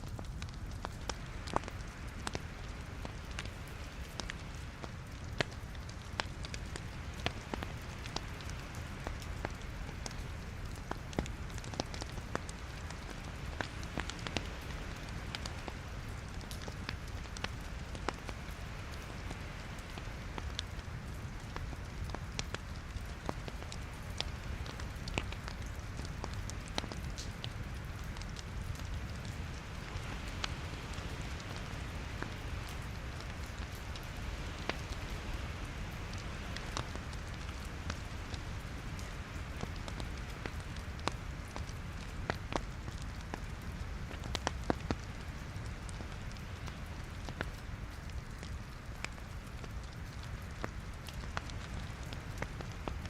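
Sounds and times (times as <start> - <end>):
logs crackling and popping: 0.0 - 53.0
low rumble and hiss of fire: 0.0 - 53.0.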